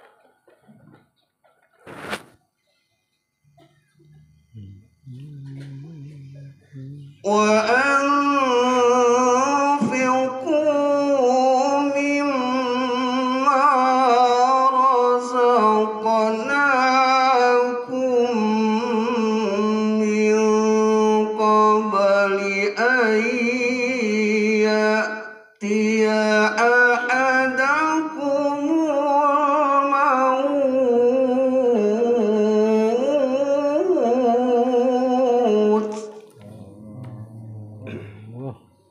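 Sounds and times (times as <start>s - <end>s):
man chanting into a microphone: 4.5s - 38.6s.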